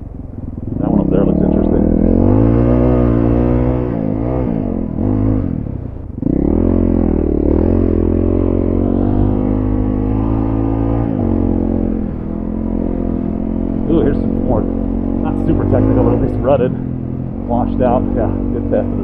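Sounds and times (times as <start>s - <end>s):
dirt bike engine revving: 0.4s - 19.0s.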